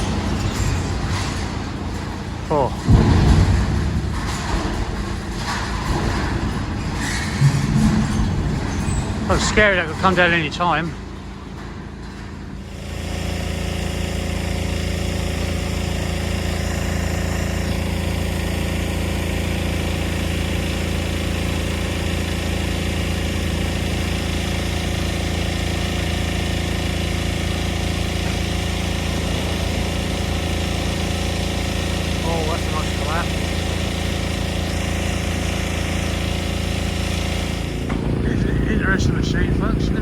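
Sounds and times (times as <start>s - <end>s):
diesel machinery engine drone: 0.0s - 40.0s.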